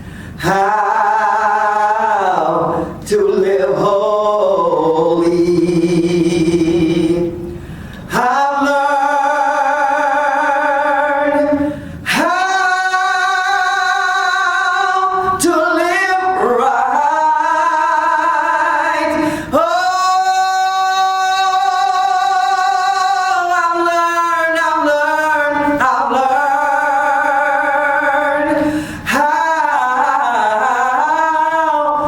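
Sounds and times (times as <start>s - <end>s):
woman singing gospel song: 0.4s - 7.4s, 8.1s - 32.0s.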